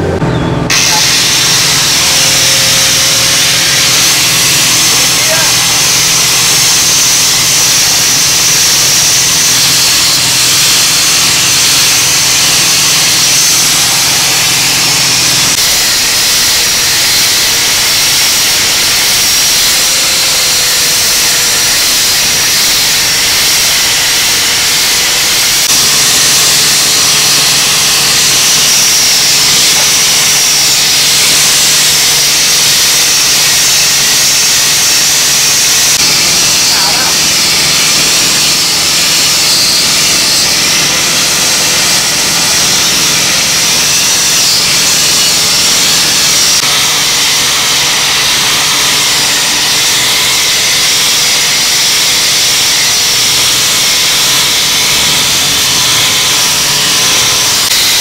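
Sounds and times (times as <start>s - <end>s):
angle grinder grinding metal: 0.0s - 58.0s.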